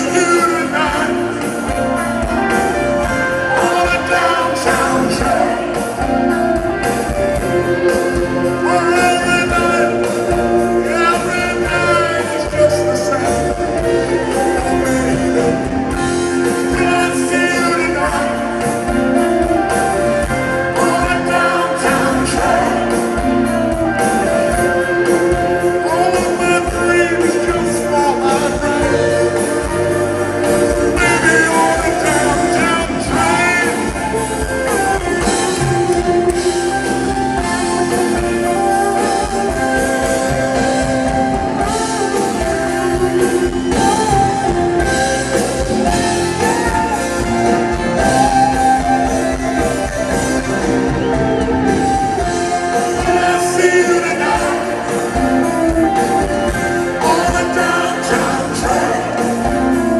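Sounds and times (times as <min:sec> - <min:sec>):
person singing: 0:00.0 - 0:59.9
rock band playing: 0:00.0 - 0:59.9.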